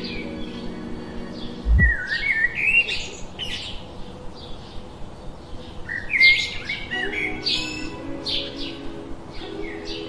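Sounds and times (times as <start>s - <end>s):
birds warbling and chirping: 0.0s - 10.0s.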